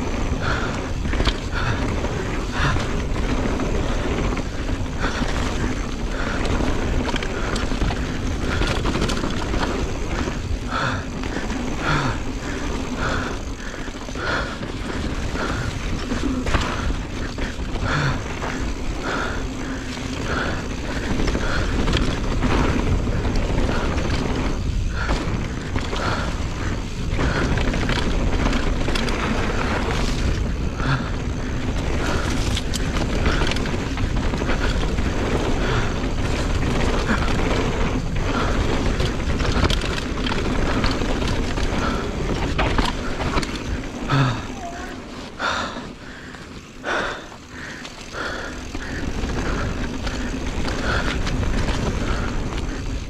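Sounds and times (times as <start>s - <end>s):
wind rumble on microphone: 0.0s - 44.9s, 47.5s - 53.0s
bike tyres on dirt trail: 0.0s - 53.0s.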